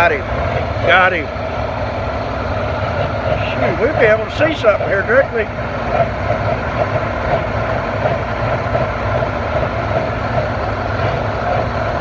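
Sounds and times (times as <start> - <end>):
tractor engine rumbling: 0.0 - 12.0.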